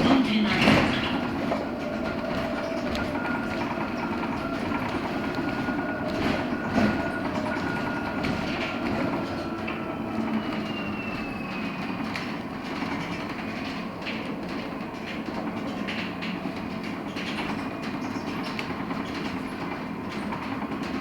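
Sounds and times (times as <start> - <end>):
bus cabin rumble: 0.0 - 21.0
knocks and rattles: 0.0 - 21.0.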